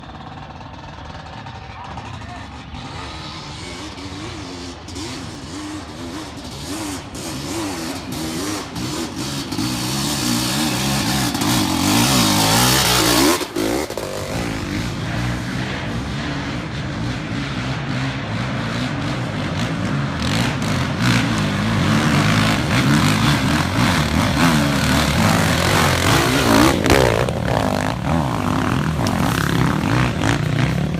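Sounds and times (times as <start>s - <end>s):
off-road vehicle engine revving: 0.0s - 30.9s.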